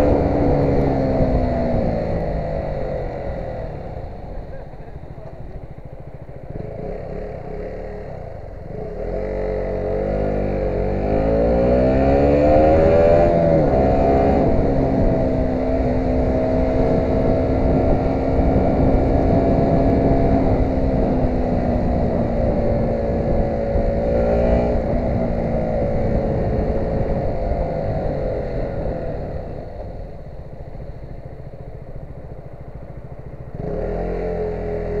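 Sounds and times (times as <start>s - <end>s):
vehicle engine: 0.0s - 35.0s.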